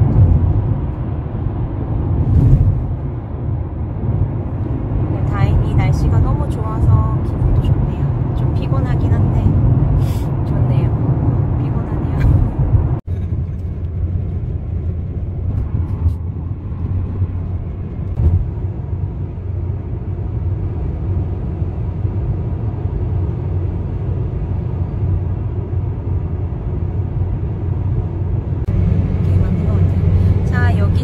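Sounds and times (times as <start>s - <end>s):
car road noise rumble: 0.0s - 31.0s.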